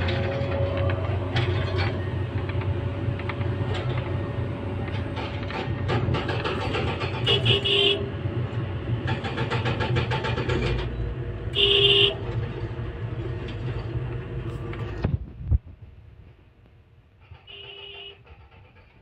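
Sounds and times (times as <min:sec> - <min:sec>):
excavator engine running: 0:00.0 - 0:16.5, 0:17.1 - 0:19.0.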